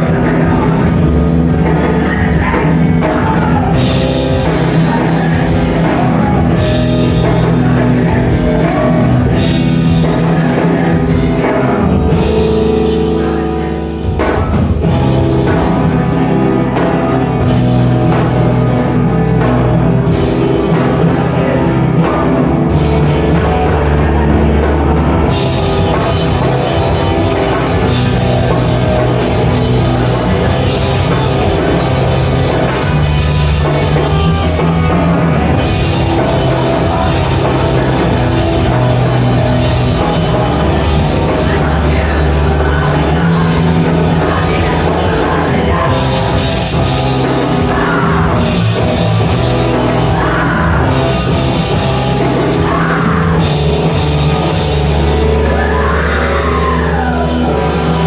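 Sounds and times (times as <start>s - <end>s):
bass: 0.0s - 58.0s
distorted guitars: 0.0s - 58.0s
drum kit: 0.0s - 58.0s.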